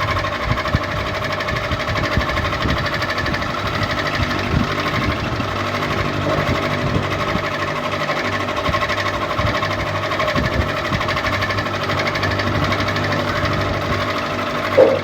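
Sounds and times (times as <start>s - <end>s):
electric ceiling fan humming: 0.0s - 15.0s.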